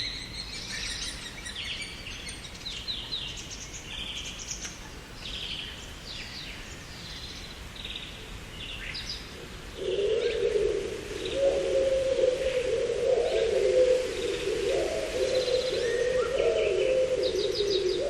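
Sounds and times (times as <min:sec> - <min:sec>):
songbirds chirping and singing: 0:00.0 - 0:18.0.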